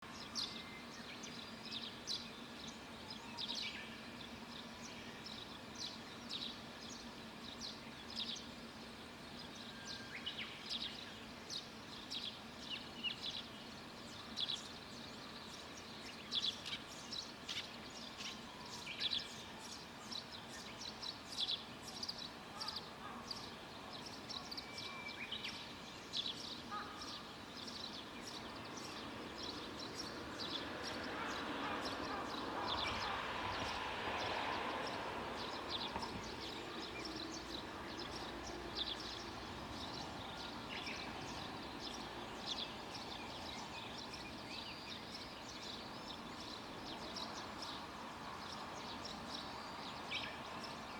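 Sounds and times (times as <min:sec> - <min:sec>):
faint background hiss: 0:00.0 - 0:50.9
small birds chirping: 0:10.0 - 0:50.9.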